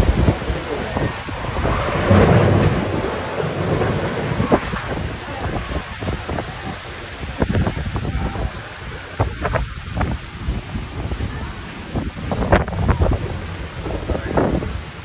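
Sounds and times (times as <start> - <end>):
rain: 0.0 - 15.0
storm wind gusting on microphone: 0.0 - 15.0.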